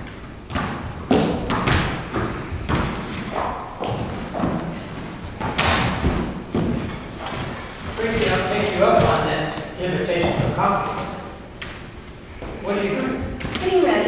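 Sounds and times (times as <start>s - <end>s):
footsteps on stage floor: 0.0s - 13.8s.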